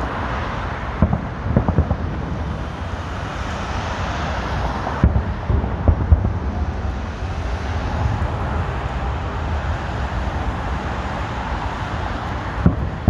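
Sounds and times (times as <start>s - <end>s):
distant fireworks booming: 0.0s - 13.0s
traffic rumble: 0.0s - 13.0s
wind on microphone: 0.0s - 13.0s.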